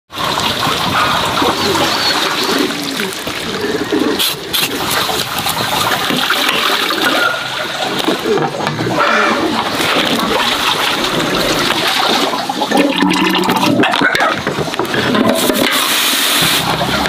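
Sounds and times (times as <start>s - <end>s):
water splashing and trickling: 0.1s - 17.0s.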